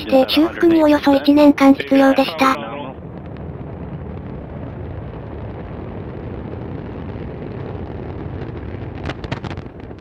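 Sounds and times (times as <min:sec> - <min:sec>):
deep rocket rumble: 0:00.0 - 0:10.0.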